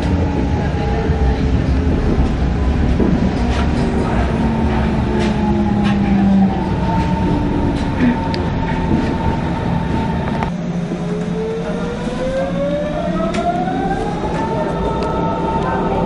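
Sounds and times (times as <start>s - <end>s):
train wheel rumble: 0.0s - 16.0s.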